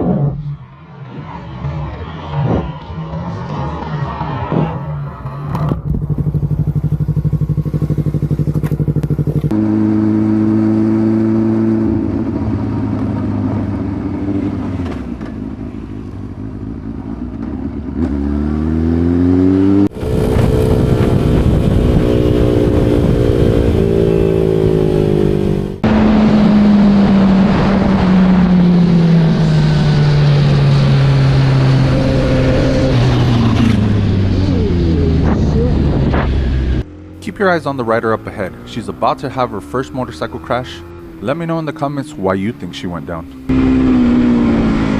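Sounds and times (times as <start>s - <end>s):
motorcycle engine revving: 1.6s - 44.9s.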